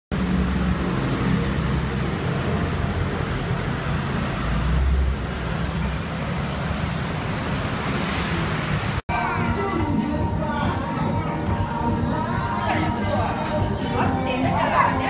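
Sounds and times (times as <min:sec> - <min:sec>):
street traffic rumble: 0:00.1 - 0:15.0.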